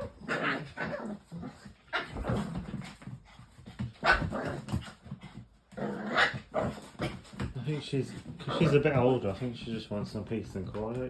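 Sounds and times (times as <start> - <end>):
dogs play-fighting: 0.0 - 11.0.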